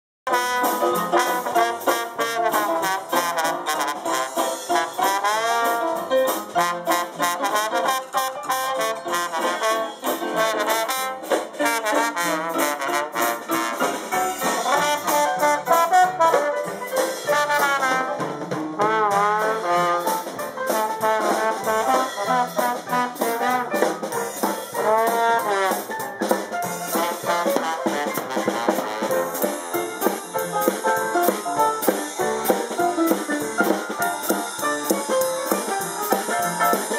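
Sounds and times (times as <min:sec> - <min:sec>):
dixieland jazz band playing: 0:00.3 - 0:36.9.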